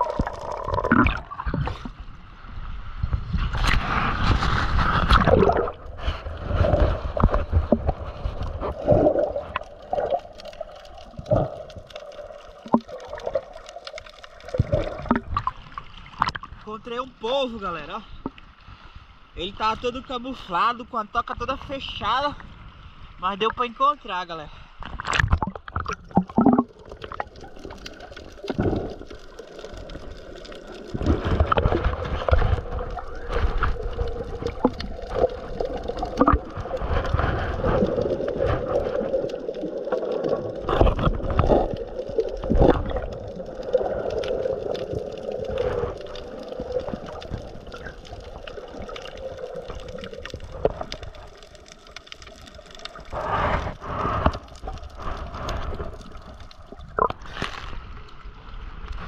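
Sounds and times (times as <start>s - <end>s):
muffled water gurgling and sloshing: 0.0s - 59.0s.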